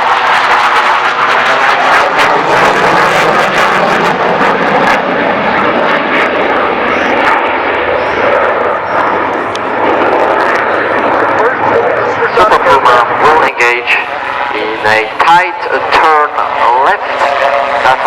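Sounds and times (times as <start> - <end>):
aircraft engine: 0.0 - 18.0.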